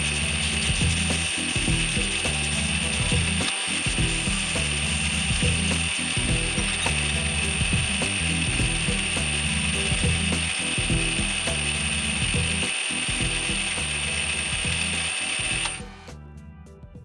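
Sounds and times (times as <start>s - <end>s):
abrasive pad polishing metal: 0.0s - 15.8s
metal lathe running: 0.0s - 16.0s.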